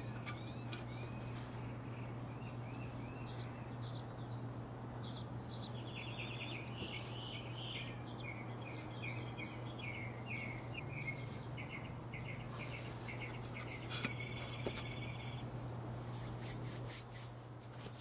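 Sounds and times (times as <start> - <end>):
songbird chirping rapidly: 0.0 - 15.7
steady low hum: 0.0 - 18.0.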